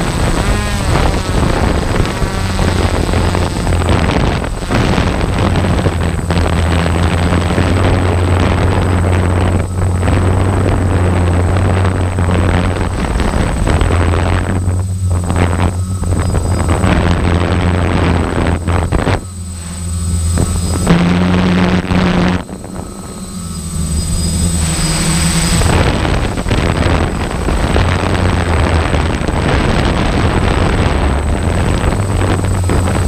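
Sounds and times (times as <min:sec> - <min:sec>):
loud rushing noise: 0:00.0 - 0:33.0
low engine-like drone: 0:00.0 - 0:33.0.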